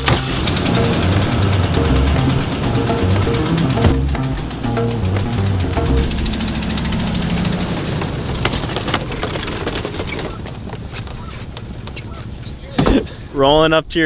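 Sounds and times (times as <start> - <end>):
engine running under load: 0.0 - 12.4
engine ticking: 0.0 - 12.4.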